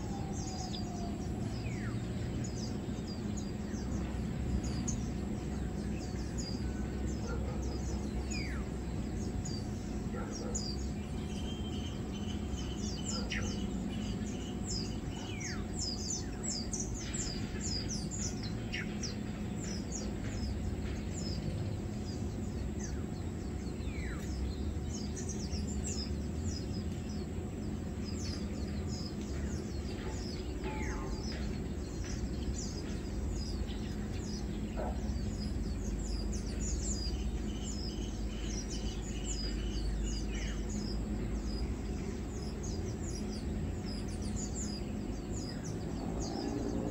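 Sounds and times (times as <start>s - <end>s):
low background rumble: 0.0s - 46.9s
small birds chirping: 0.0s - 46.9s.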